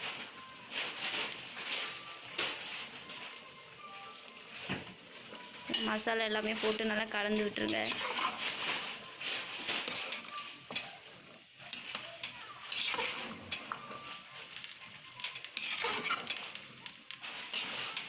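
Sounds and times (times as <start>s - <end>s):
spoon stirring in metal pot: 0.0s - 18.0s.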